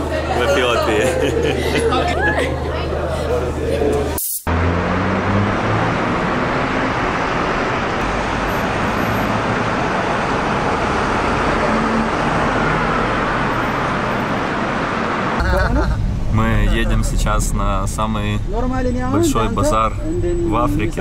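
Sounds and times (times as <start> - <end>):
busy road traffic: 0.0 - 21.0.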